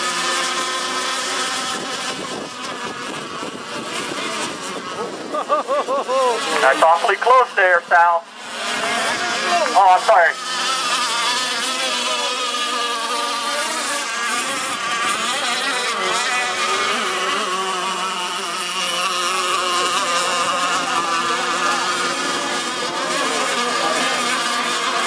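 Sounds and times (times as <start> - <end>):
model boat engines buzzing: 0.0 - 25.0.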